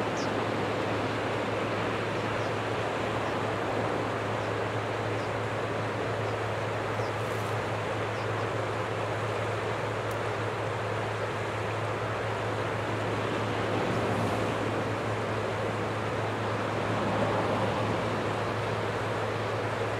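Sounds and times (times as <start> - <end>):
jet engines: 0.0 - 19.9.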